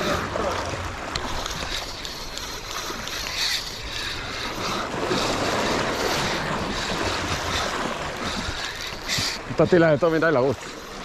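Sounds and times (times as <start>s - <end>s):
sea waves washing on shore: 0.0s - 11.0s
fishing reel cranking: 1.1s - 11.0s.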